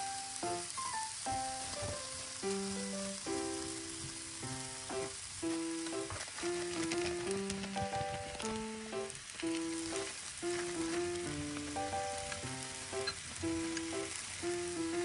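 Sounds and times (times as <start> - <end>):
background music: 0.0 - 15.0
meat sizzling in a pan: 0.0 - 15.0.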